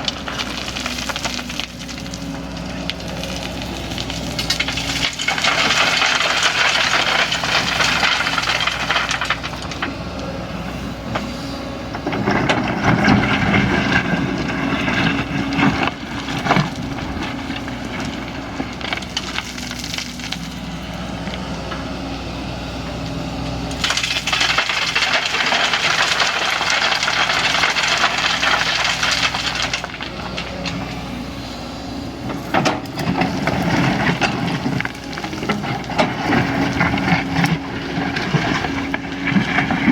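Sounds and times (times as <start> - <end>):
excavator diesel engine running: 0.0 - 39.9
hissing rattling work noise: 0.0 - 39.9.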